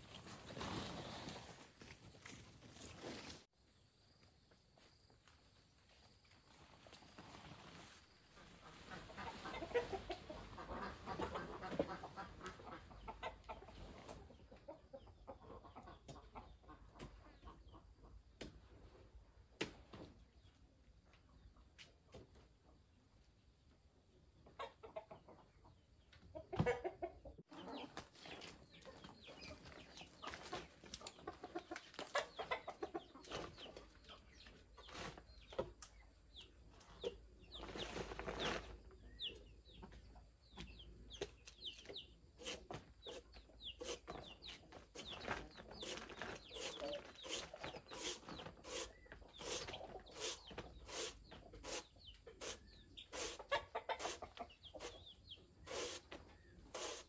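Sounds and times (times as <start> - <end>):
chickens clucking: 7.7 - 19.2, 19.9 - 57.0.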